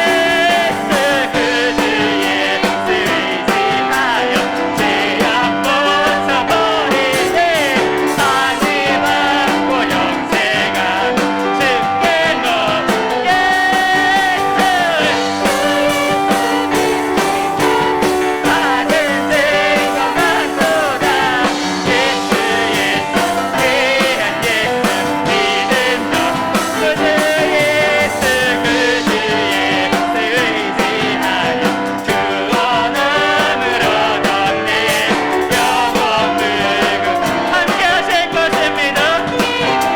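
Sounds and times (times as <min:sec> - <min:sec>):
drums: 0:00.0 - 0:39.9
group singing a worship song: 0:00.0 - 0:39.9
piano: 0:00.0 - 0:39.9.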